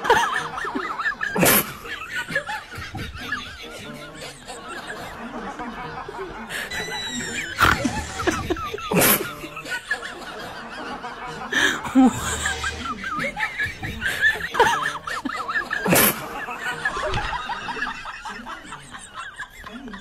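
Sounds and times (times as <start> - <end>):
people laughing: 0.0 - 20.0.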